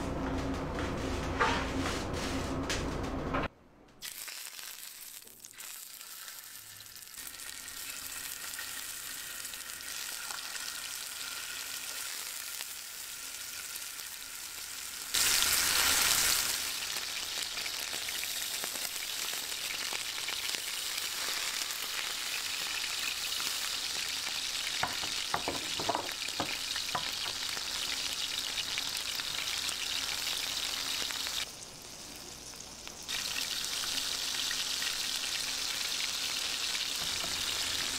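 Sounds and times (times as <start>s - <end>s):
steak sizzling in butter: 4.0s - 37.9s.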